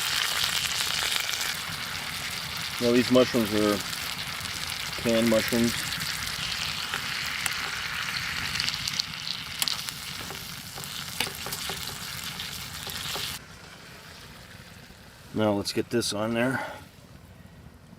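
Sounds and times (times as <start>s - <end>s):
mushrooms sizzling in a pan: 0.0s - 15.3s.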